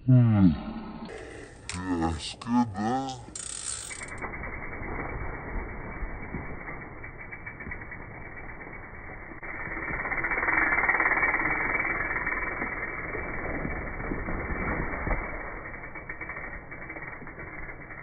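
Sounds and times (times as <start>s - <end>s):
bike rattling: 1.1s - 18.0s
bike tyres crunching leaves: 3.3s - 18.0s.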